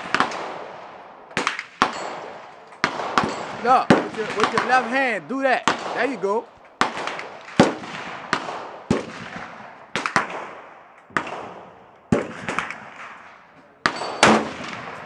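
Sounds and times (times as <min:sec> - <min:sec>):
rifle shots: 0:00.0 - 0:15.0.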